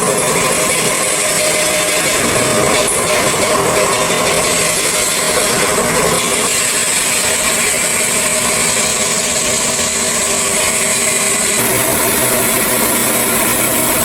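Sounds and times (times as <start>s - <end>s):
high mechanical whine: 0.0s - 14.0s
machinery rattling: 0.0s - 14.0s.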